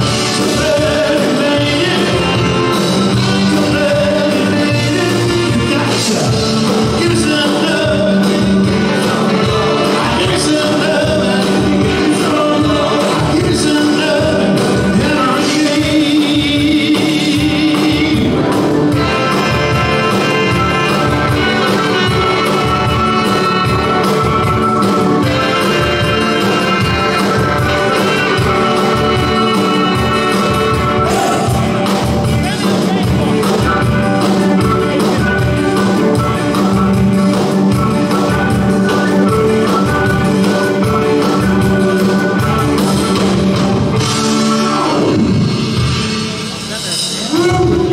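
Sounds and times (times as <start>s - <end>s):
live band playing: 0.0s - 47.9s.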